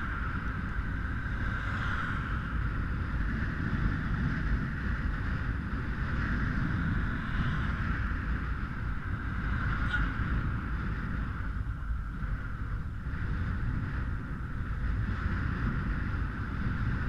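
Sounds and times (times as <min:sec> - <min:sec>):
bike tyres rolling on asphalt: 0:00.0 - 0:17.0
wind buffeting microphone: 0:00.0 - 0:17.0.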